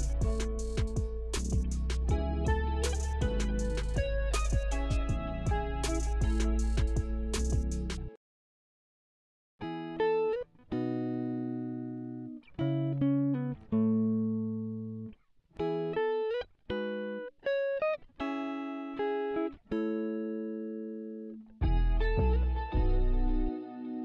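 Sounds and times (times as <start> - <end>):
clean guitar picking chords: 0.0 - 8.1, 9.6 - 24.0.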